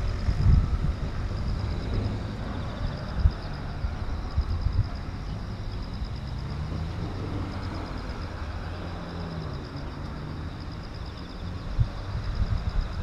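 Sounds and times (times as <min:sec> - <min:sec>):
cars driving slowly: 0:00.0 - 0:13.0.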